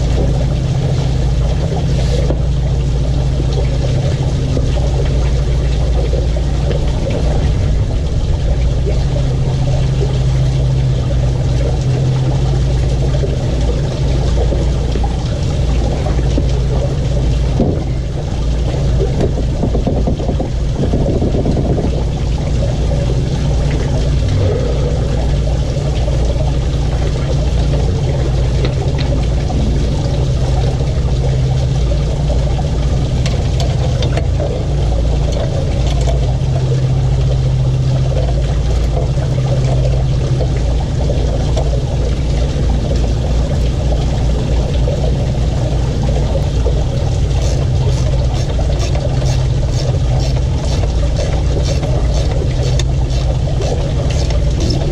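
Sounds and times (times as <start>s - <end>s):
motor drone: 0.0s - 54.9s.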